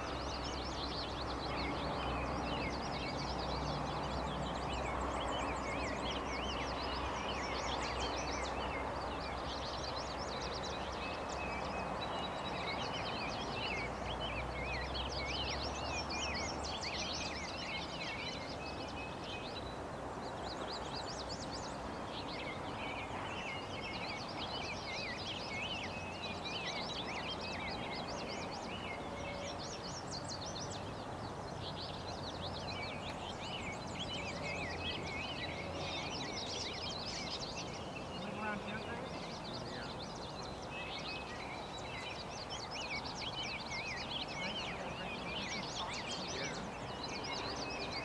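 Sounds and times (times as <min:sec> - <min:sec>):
outdoor background hiss: 0:00.0 - 0:48.0
songbirds twittering: 0:00.0 - 0:48.0.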